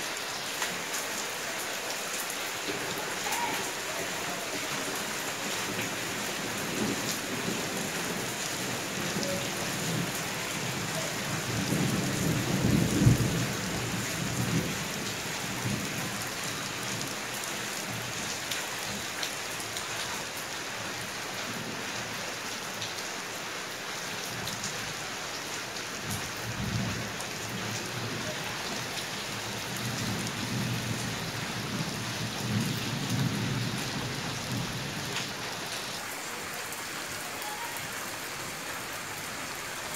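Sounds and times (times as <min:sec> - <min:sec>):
rain splashing on pots and stone: 0:00.0 - 0:39.9.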